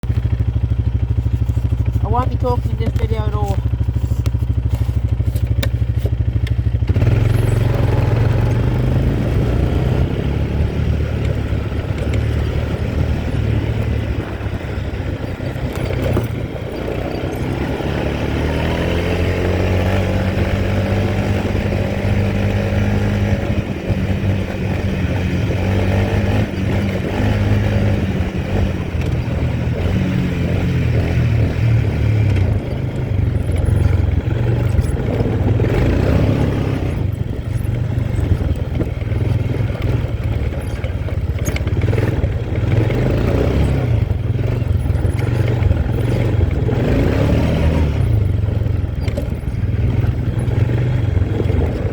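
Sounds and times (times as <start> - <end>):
quad bike engine running: 0.0 - 51.9.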